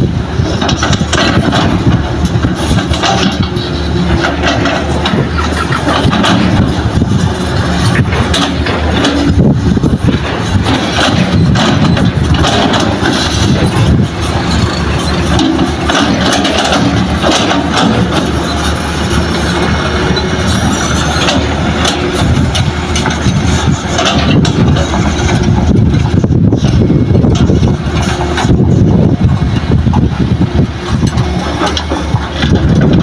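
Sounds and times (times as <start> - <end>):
heavy diesel machinery running: 0.0 - 33.0.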